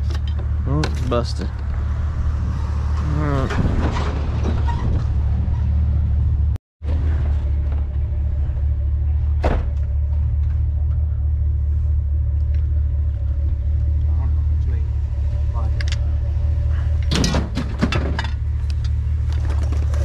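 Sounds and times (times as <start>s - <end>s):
vehicle driving rumble: 0.0s - 20.0s.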